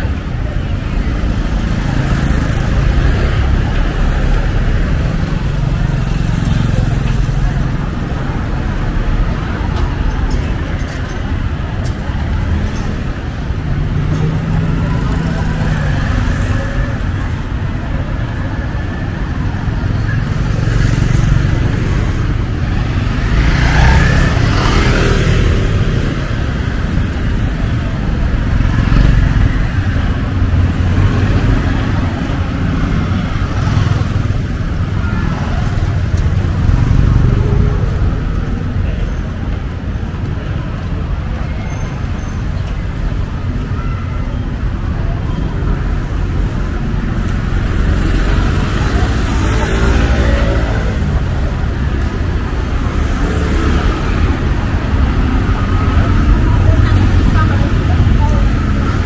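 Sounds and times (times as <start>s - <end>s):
cars and motorbikes passing: 0.0s - 59.0s.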